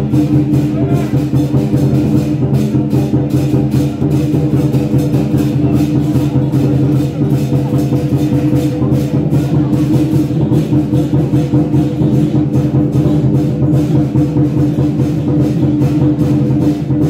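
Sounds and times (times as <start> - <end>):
drums and percussion beating: 0.0 - 17.0.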